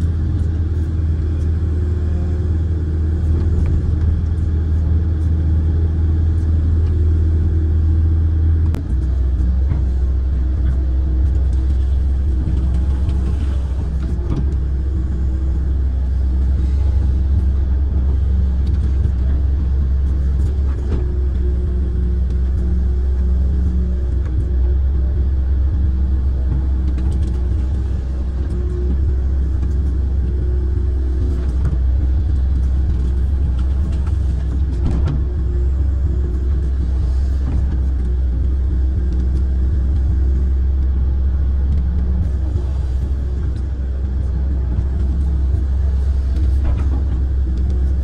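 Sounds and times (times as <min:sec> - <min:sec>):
excavator diesel engine rumbling: 0:00.0 - 0:48.0.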